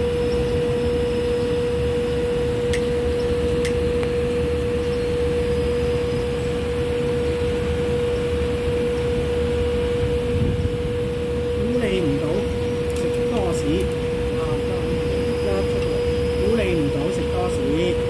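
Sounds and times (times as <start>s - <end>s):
low background rumble: 0.0s - 18.0s
steady hum: 0.0s - 18.0s.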